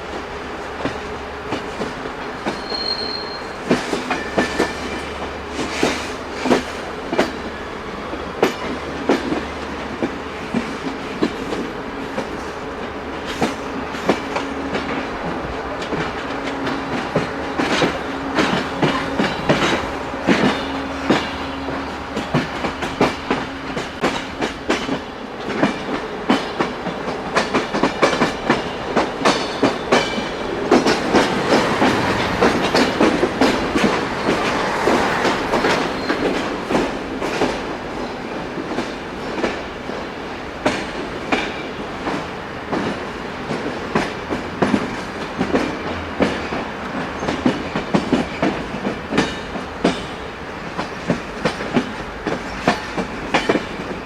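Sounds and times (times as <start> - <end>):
train wheels clattering over rail joints: 0.1 - 7.5, 8.2 - 54.0.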